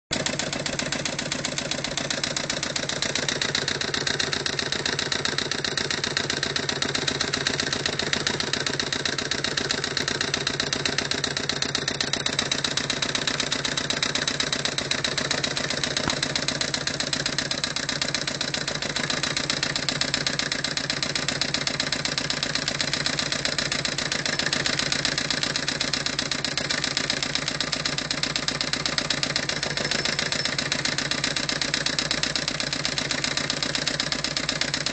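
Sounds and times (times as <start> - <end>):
hot-air engine mechanical clatter: 0.1 - 34.9.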